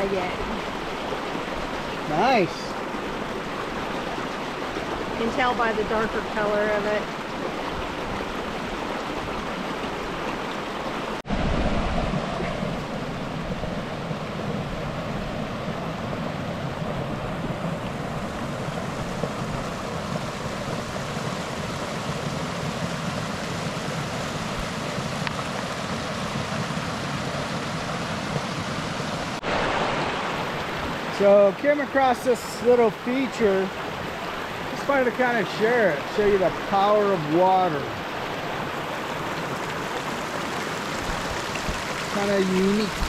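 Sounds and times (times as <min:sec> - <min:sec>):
creek water rushing over rocks: 0:00.0 - 0:43.0.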